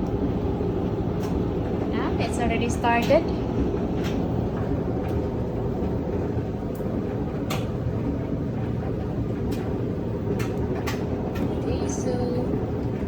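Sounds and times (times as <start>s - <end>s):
tumble dryer drum rumbling: 0.0s - 13.0s.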